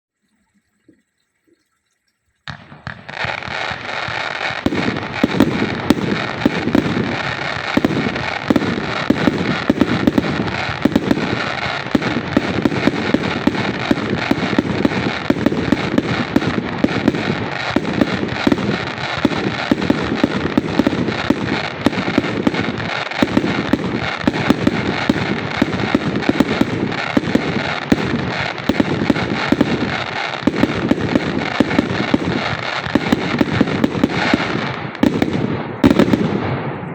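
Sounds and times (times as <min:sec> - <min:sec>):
firework crackling pops: 0:02.5 - 0:36.9.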